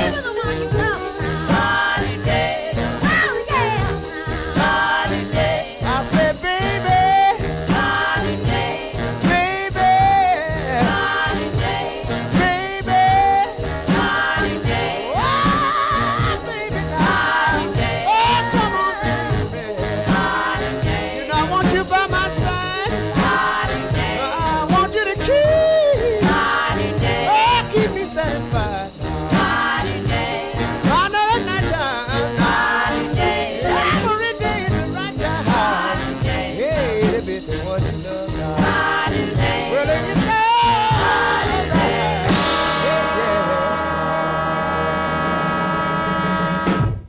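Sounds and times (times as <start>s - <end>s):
upbeat song with singing: 0.0s - 45.1s.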